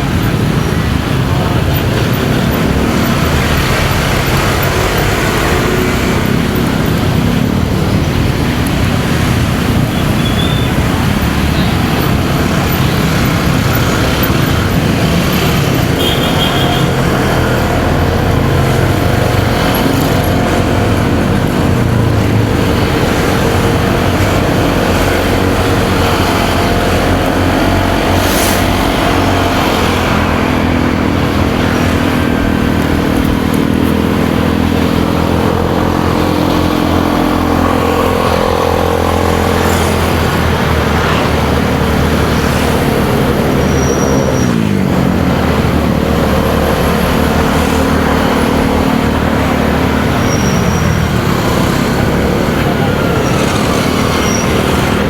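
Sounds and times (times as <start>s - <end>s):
motorcycle engine revving: 0.0s - 55.0s
surrounding traffic: 0.0s - 55.0s
wind and road noise: 0.0s - 55.0s.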